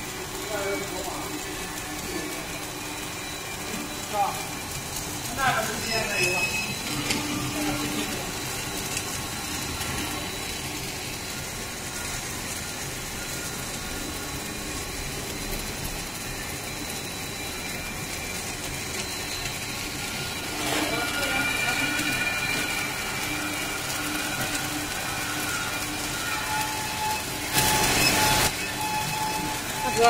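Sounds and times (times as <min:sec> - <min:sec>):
high-pitched machine whine: 0:00.0 - 0:30.0
production line machinery humming: 0:00.0 - 0:30.0.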